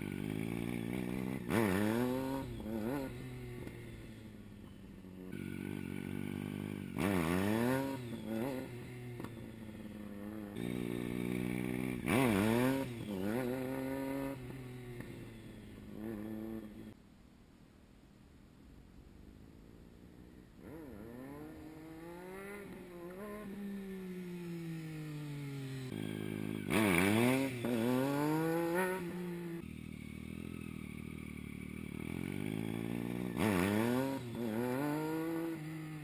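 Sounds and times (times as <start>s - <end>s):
motorcycle engine revving: 0.0s - 17.0s, 19.5s - 36.0s.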